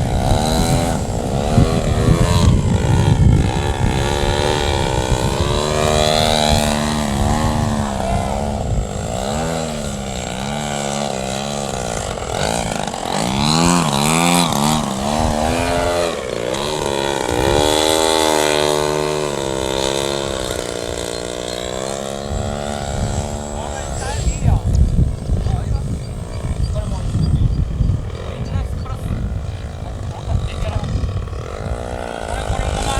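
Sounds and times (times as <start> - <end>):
model plane engine and propeller: 0.0 - 32.9.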